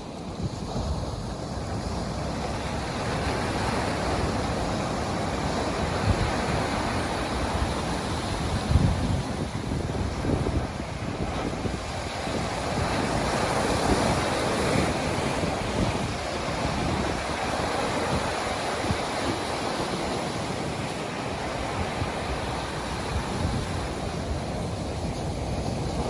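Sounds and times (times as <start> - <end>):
ocean surf washing in: 0.0 - 26.0
wind buffeting microphone: 0.0 - 26.0.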